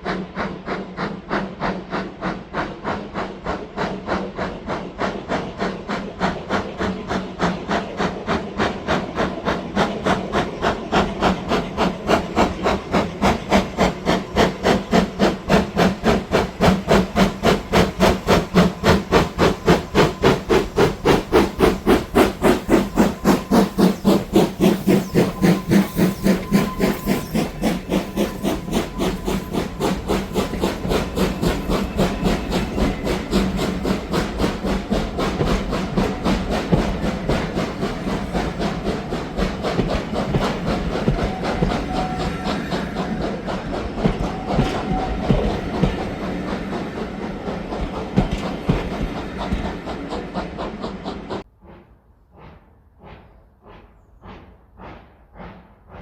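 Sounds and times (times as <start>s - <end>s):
steam locomotive exhaust beats: 0.0s - 56.0s
train wheels clattering: 0.0s - 56.0s.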